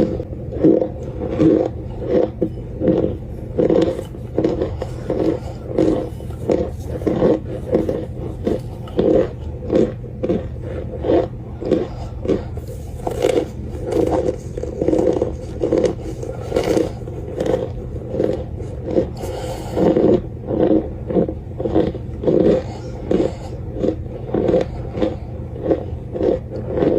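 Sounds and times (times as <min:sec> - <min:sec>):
cornstarch crunching: 0:00.0 - 0:26.9
low hum: 0:00.0 - 0:26.9.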